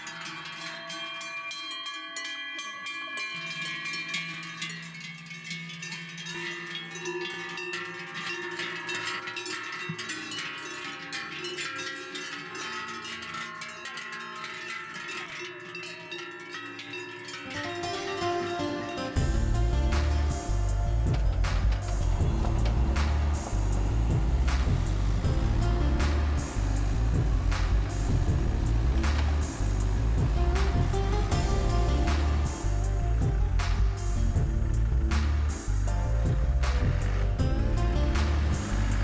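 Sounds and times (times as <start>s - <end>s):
cowbells jangling: 0.0s - 34.8s.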